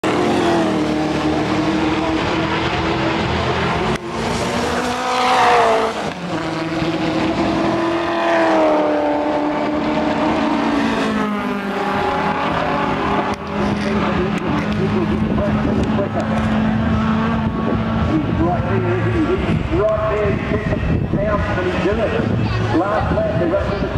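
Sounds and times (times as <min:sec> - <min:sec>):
race car engines at speed: 0:00.0 - 0:23.9.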